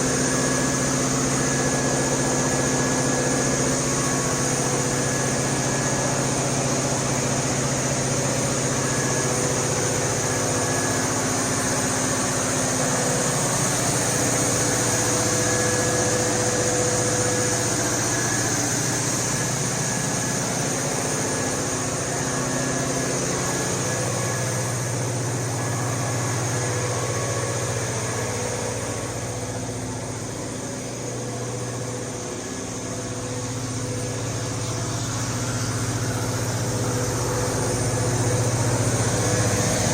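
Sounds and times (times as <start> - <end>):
diesel generator engine drone: 0.0 - 39.9.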